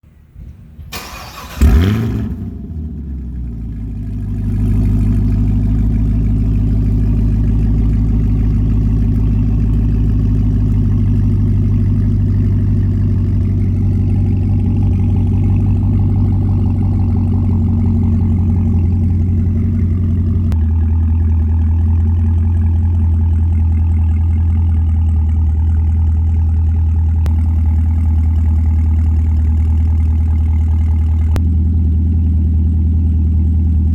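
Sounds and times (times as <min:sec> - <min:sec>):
car engine idling: 0:00.1 - 0:33.9
car engine starting: 0:00.4 - 0:33.9.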